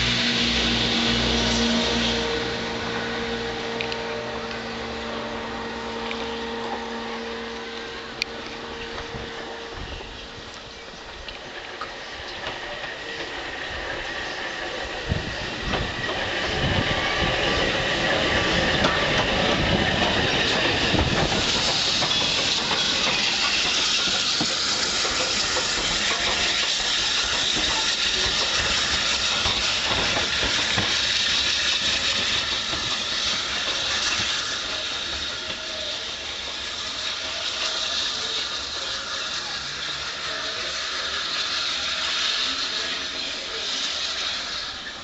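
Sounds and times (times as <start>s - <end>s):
train wheel and rail noise: 0.0s - 45.0s.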